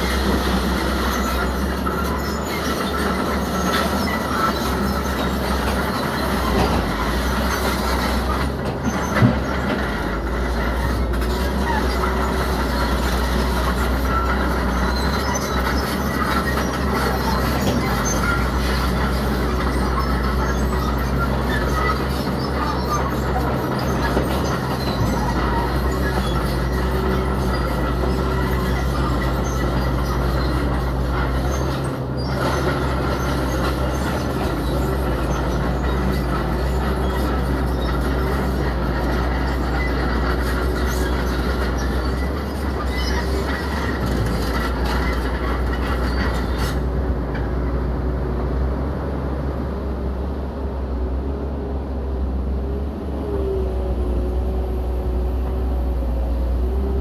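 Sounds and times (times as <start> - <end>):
crawler tracks clattering and squealing: 0.0 - 49.2
diesel engine running: 0.0 - 57.0.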